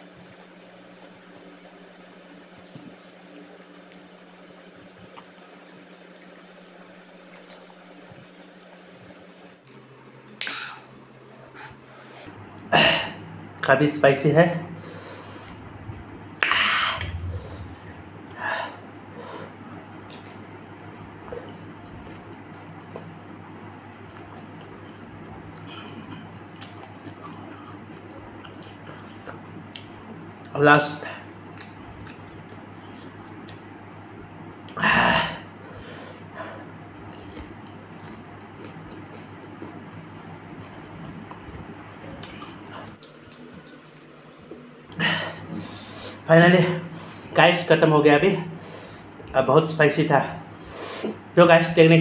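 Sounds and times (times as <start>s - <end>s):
man chewing food: 0.0s - 13.5s, 14.8s - 47.4s
steady low hum: 0.0s - 52.0s.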